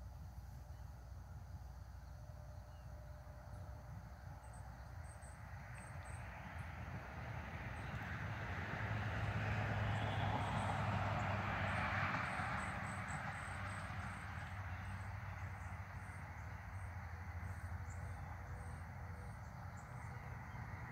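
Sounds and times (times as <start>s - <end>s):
distant vehicle rumble: 1.1s - 20.9s.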